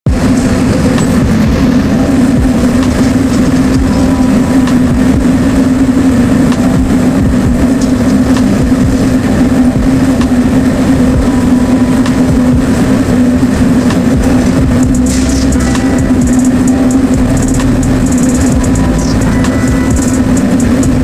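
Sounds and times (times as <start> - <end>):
furnace rumbling: 0.1 - 21.0.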